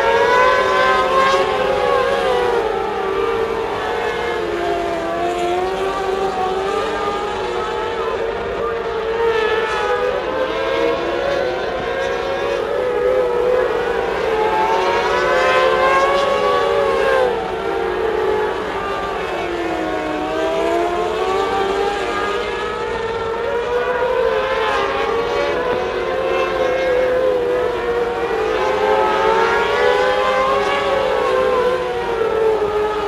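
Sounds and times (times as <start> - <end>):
race car engines: 0.0 - 33.0.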